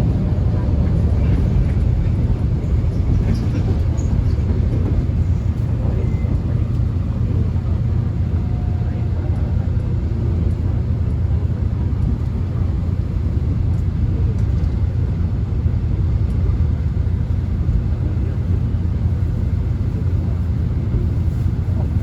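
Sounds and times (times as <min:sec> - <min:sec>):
subway train rumble: 0:00.0 - 0:22.0.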